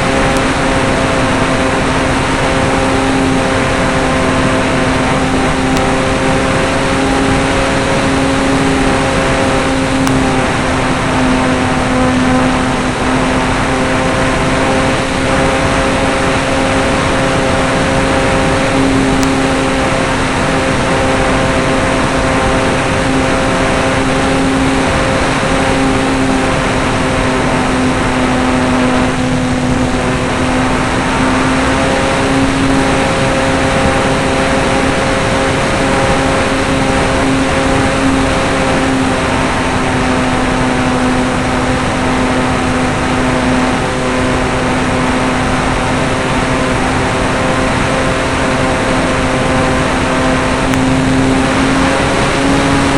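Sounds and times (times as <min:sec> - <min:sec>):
model airplane motor and propeller: 0:00.0 - 0:52.9
wind noise on microphone: 0:00.0 - 0:52.9.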